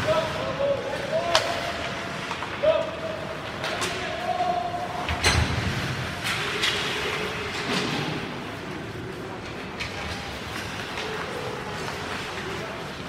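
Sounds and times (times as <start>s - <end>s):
sticks and puck clacking: 0.0s - 13.0s.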